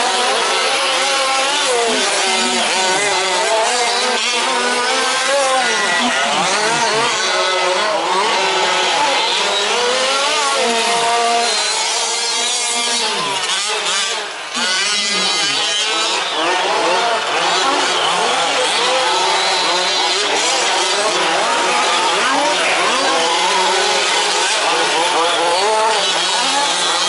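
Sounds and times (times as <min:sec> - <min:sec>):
remote-control truck engines revving: 0:00.0 - 0:27.0.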